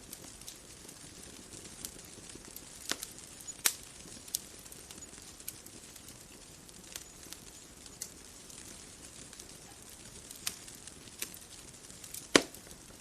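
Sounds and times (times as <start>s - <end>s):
bonfire crackling and popping: 0.0s - 13.0s
soft steady hiss: 0.0s - 13.0s.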